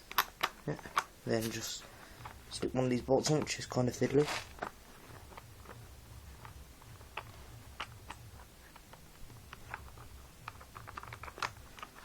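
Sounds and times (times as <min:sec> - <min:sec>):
low steady hum: 0:00.0 - 0:12.0
metal parts clicking: 0:00.0 - 0:12.0.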